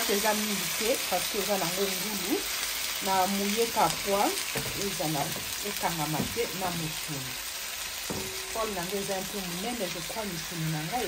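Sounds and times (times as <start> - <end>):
meat sizzling in a grill pan: 0.0 - 11.0.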